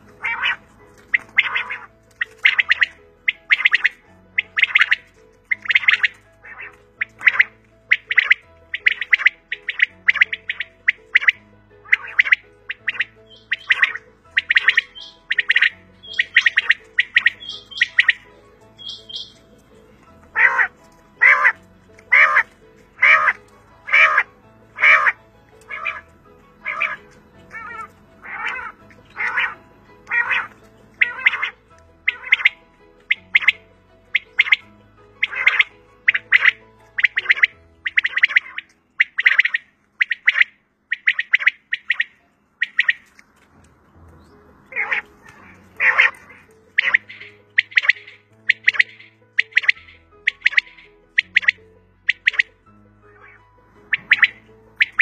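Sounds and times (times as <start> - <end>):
bird calling harsh notes: 0.0 - 43.2, 44.2 - 55.0.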